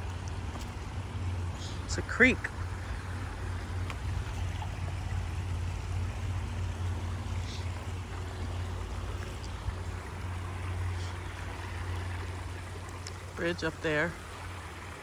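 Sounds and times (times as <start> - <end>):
creek water flowing: 0.0 - 15.0.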